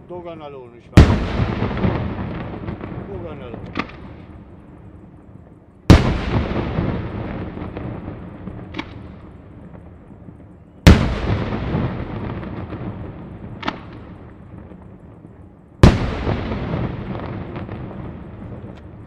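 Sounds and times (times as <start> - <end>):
fireworks bangs echoing: 0.2 - 5.1, 5.8 - 19.0
smaller firework cracks: 0.9 - 19.0.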